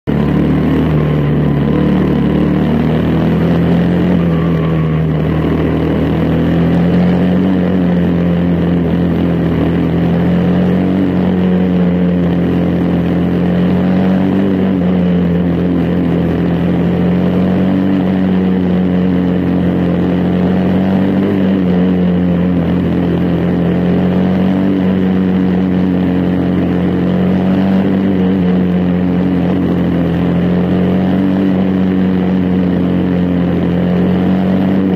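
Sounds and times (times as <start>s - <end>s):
race car engine running hard: 0.0s - 34.9s.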